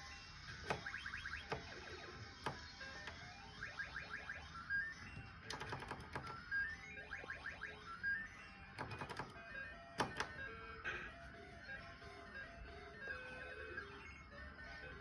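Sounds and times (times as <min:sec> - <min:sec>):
game music: 0:00.0 - 0:15.0.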